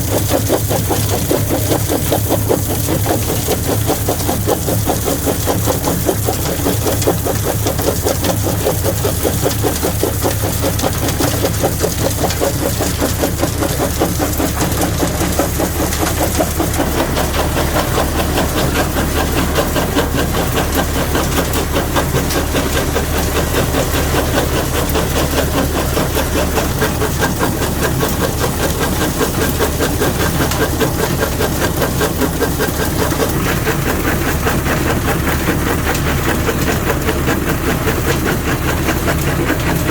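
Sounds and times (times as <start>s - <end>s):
rock-crushing machinery running: 0.0s - 39.9s.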